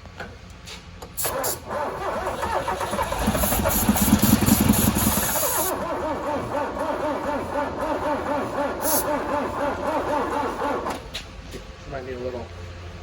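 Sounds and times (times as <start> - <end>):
truck engine starting and running: 1.0 - 11.7.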